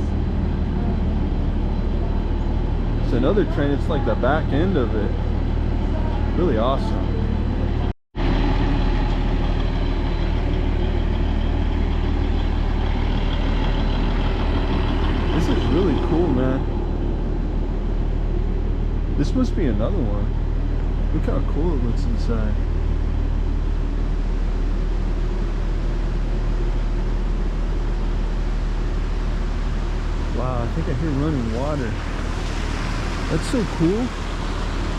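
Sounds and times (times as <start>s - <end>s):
diesel train engine idling: 0.0s - 34.9s.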